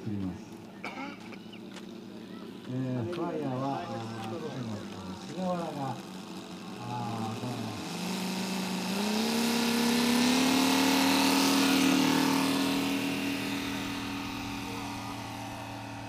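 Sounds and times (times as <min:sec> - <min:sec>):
model aero engine revving: 0:01.6 - 0:16.0.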